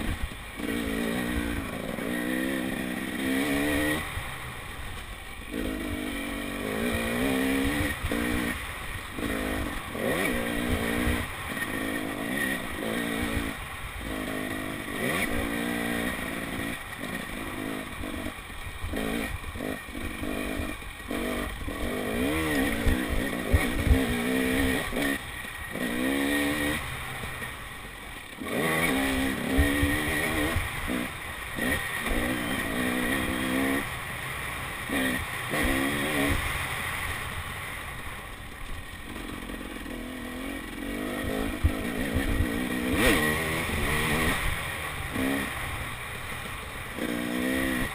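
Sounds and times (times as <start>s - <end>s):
dirt bike engine revving: 0.0s - 37.8s, 38.8s - 47.9s.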